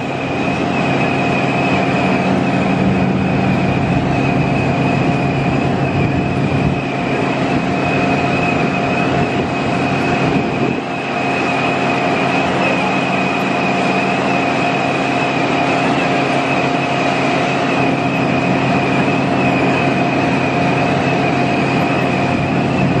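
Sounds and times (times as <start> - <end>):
loading machinery rushing din: 0.0 - 23.0
low mechanical hum: 0.0 - 23.0
steady high whine: 0.0 - 23.0.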